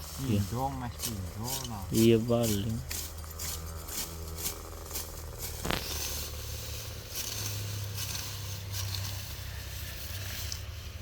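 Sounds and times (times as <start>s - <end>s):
low engine hum: 0.0s - 11.0s
sickle swishing through grass: 0.0s - 11.0s.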